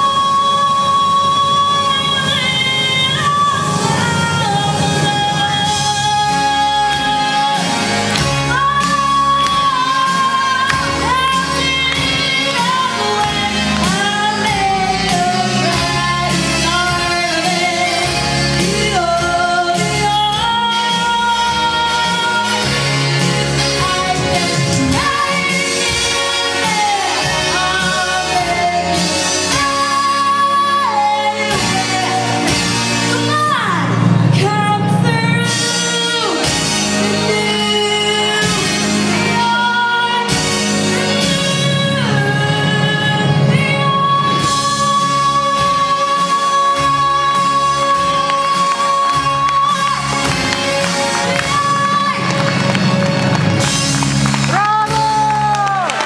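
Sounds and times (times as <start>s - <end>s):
girl singing into microphone: 0.0s - 22.9s, 23.7s - 50.2s
pop backing music: 0.0s - 56.0s.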